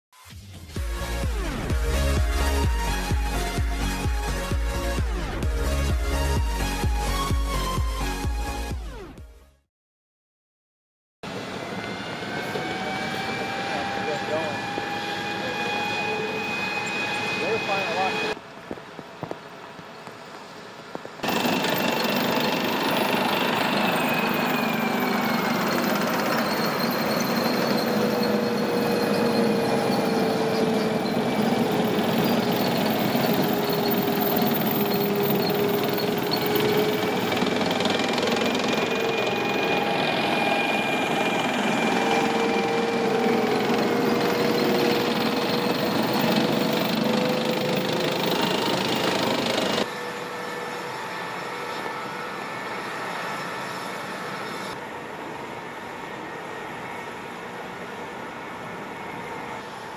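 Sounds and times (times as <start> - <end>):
turbine engine whine: 11.2 - 59.9.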